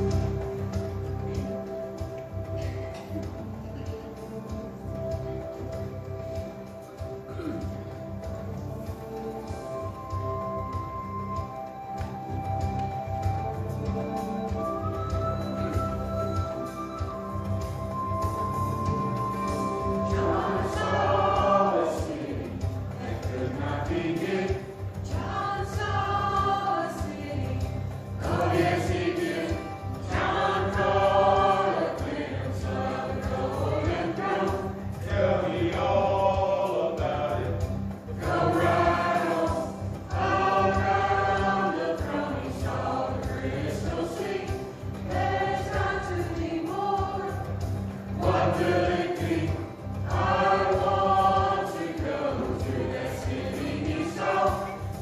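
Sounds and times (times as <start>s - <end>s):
choir singing a hymn: 0.0s - 4.7s, 14.0s - 55.0s.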